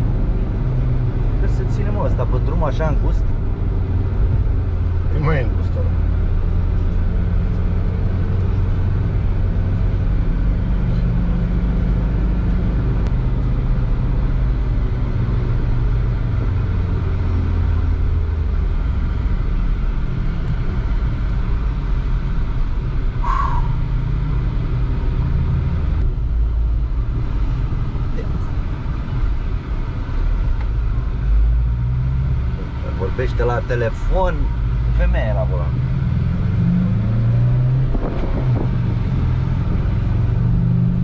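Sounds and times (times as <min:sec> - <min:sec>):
diesel engine drone inside car: 0:00.0 - 0:41.0.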